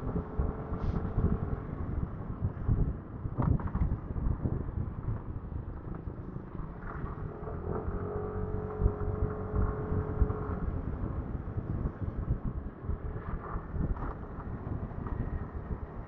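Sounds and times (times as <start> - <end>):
road traffic: 0.0 - 16.0
scooter riding noise: 0.0 - 16.0
wind rumble on microphone: 0.0 - 16.0.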